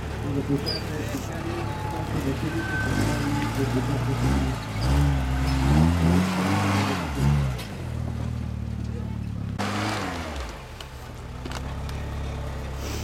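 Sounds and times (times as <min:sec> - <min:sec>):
buggy engine revving hard: 0:00.0 - 0:10.9.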